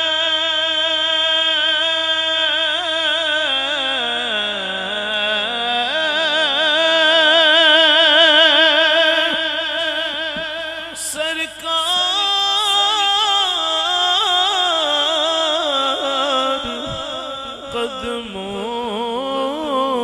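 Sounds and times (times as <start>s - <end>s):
man singing held notes with vibrato: 0.0s - 20.0s.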